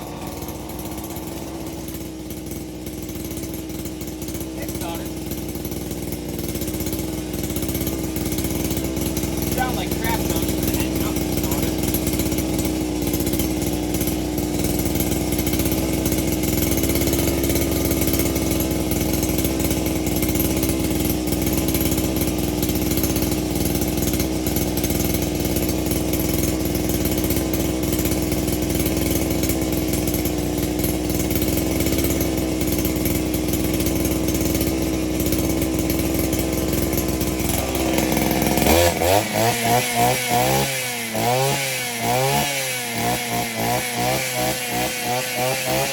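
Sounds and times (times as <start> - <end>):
small two-stroke engine running: 0.0 - 45.9.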